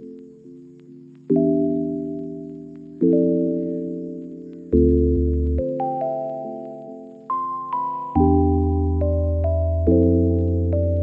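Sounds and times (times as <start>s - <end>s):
soft keyboard notes: 0.0s - 11.0s.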